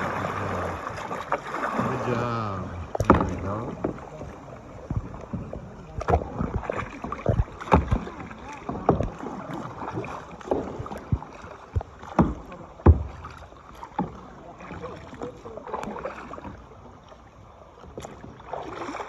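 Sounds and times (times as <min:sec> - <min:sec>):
paddle knocking against kayak: 0:00.0 - 0:19.0
paddle splashing in water: 0:00.0 - 0:19.0.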